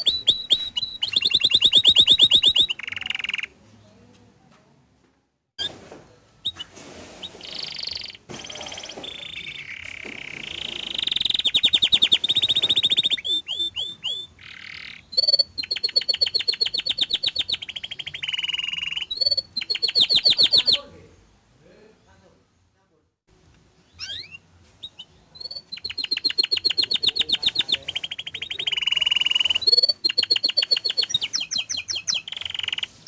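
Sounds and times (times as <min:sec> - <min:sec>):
canary singing trills: 0:00.0 - 0:03.6, 0:06.4 - 0:21.1, 0:23.8 - 0:33.0.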